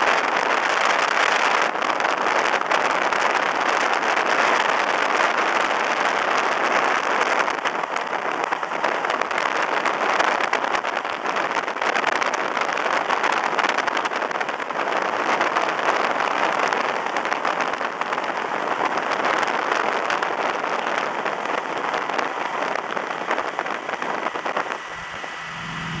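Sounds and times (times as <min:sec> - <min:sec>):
car wind rush and tyre roar: 0:00.0 - 0:26.0
wind buffeting microphone: 0:00.0 - 0:26.0.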